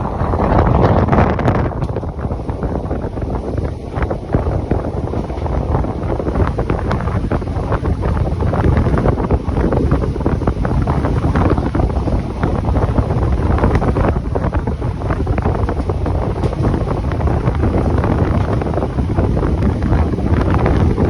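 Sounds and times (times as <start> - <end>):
train rumble: 0.0 - 21.0
wind on microphone: 0.0 - 21.0.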